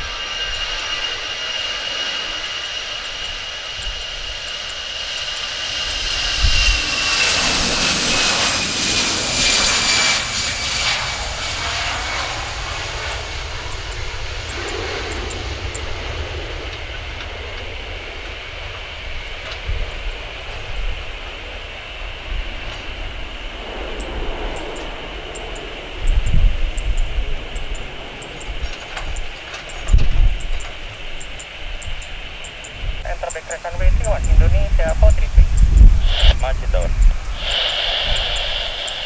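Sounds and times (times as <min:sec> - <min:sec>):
jet engine whine: 0:00.0 - 0:39.0
loud jet rushing noise: 0:00.0 - 0:39.0.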